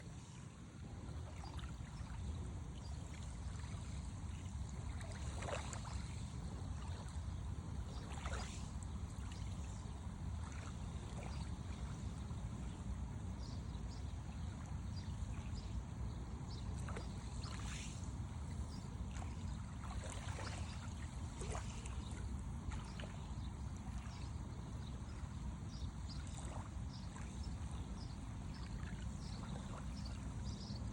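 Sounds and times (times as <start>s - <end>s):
small waves lapping and splashing: 0.0s - 30.9s.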